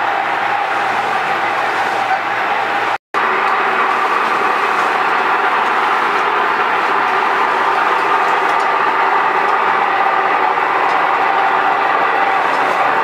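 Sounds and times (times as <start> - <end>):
machine running: 0.0 - 13.0.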